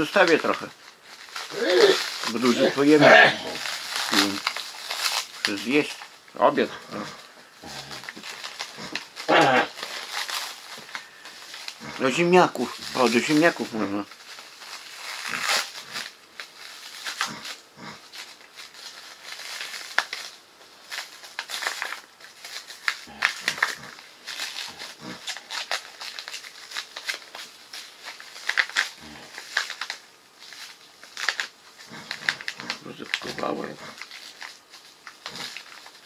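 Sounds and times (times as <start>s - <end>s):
plastic bags crinkling: 0.0s - 36.0s.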